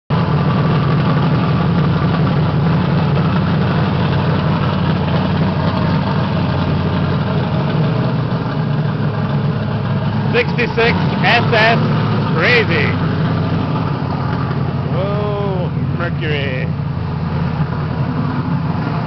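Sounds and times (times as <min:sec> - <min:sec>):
car engine idling: 0:00.1 - 0:19.0.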